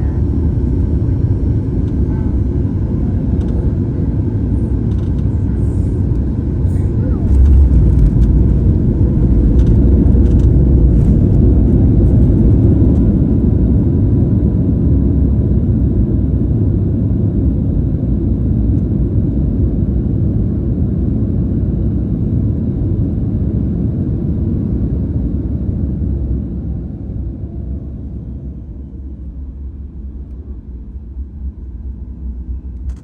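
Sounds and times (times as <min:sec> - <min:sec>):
jet cabin low rumble: 0:00.0 - 0:33.0.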